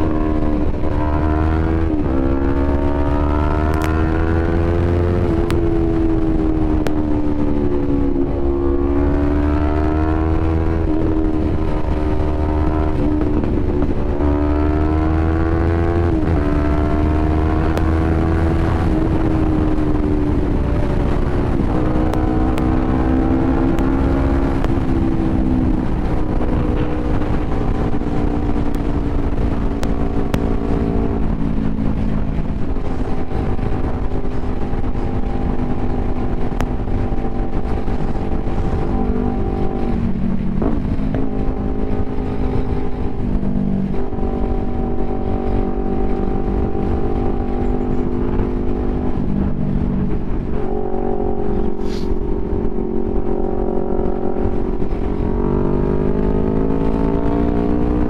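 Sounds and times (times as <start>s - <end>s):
motorcycle engine revving: 0.0s - 58.0s
wind on microphone: 0.0s - 58.0s.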